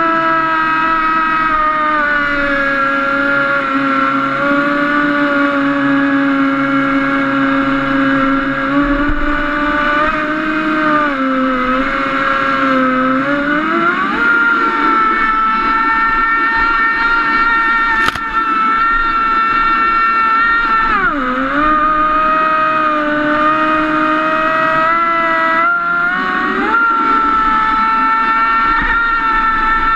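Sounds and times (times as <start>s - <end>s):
model boat motor running: 0.0s - 29.9s.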